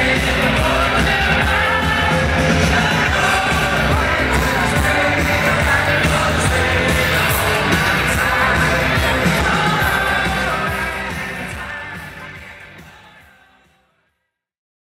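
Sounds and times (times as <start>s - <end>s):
music with singing: 0.0s - 14.2s.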